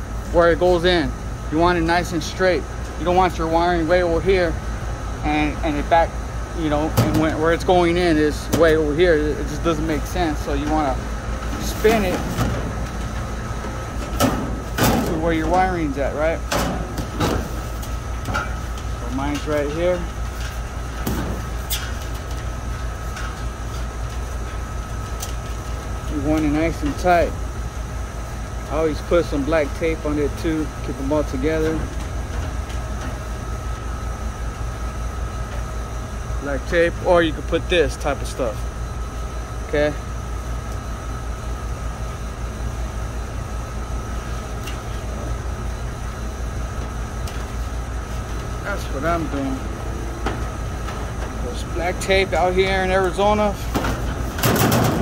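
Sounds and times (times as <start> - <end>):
faint constant whine: 0.0 - 55.0
low mechanical hum: 0.0 - 55.0.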